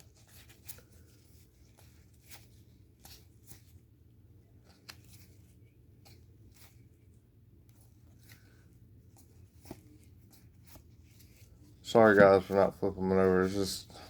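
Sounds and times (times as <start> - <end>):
low steady hum: 0.0 - 14.0
trading cards being handled: 0.0 - 14.0.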